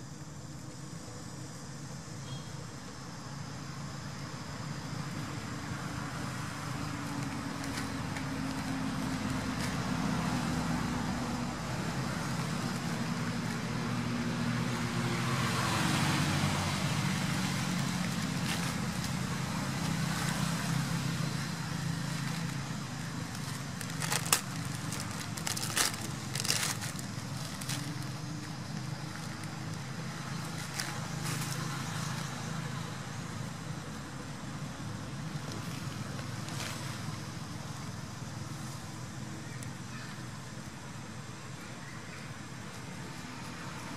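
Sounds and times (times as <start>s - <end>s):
vehicle engine running: 5.1s - 41.3s.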